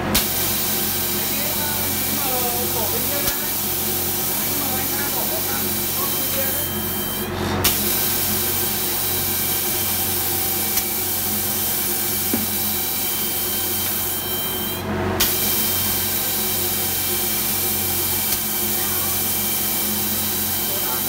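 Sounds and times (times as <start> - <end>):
machine hum: 0.0 - 21.0
air spray guns hissing: 0.2 - 21.0.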